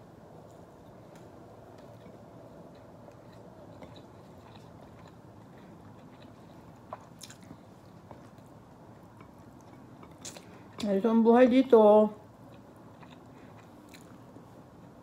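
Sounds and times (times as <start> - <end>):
low room hum: 0.0 - 15.0
chewing food: 0.4 - 10.9, 12.3 - 15.0.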